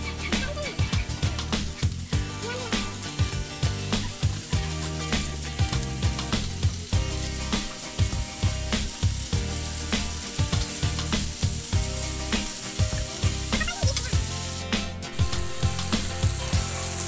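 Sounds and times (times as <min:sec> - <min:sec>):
background music with steady beat: 0:00.0 - 0:17.0
meat sizzling on a grill pan: 0:00.0 - 0:17.0.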